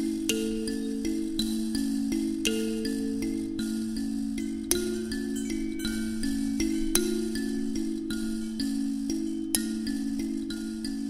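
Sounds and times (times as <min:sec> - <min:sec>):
kalimba plucked: 0:00.0 - 0:11.0.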